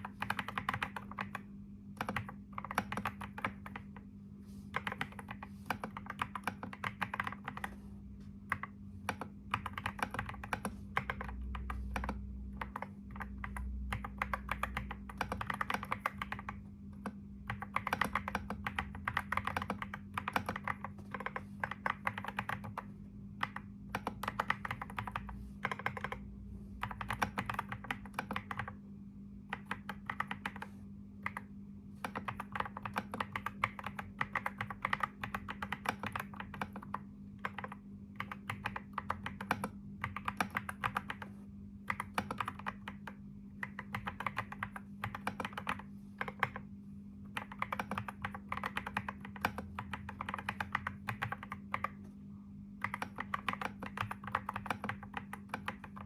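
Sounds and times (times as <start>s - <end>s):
keyboard typing: 0.0s - 28.8s, 29.4s - 56.0s
steady low hum: 0.0s - 56.0s.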